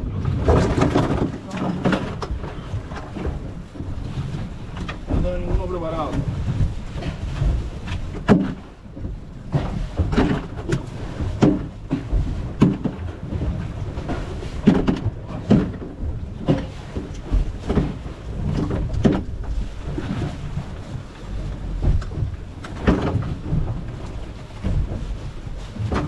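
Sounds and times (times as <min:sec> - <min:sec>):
knocks and clunks on boat: 0:00.0 - 0:26.0
wind on microphone: 0:00.0 - 0:26.0.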